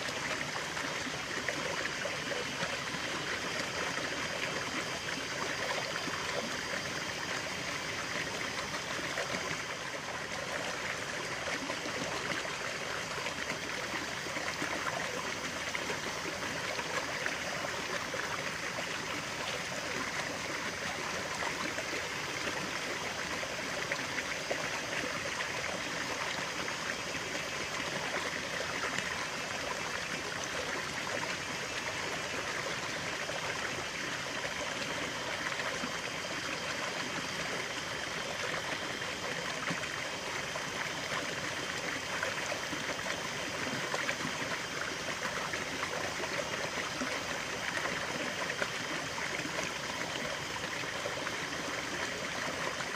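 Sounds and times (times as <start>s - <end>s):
stream of running water: 0.0s - 52.9s.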